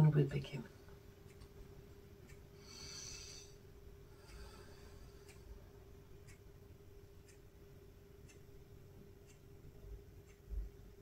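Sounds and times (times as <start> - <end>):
clock ticking faintly: 0.0 - 11.0
faint steady hum: 0.0 - 11.0.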